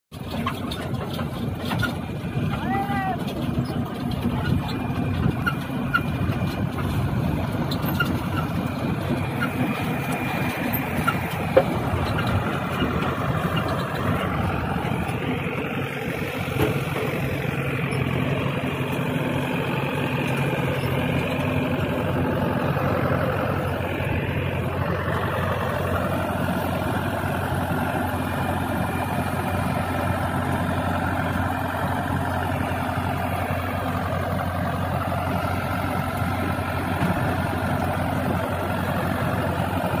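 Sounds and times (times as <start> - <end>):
harvester machinery: 0.1 - 40.0
tractor engine running: 0.1 - 40.0.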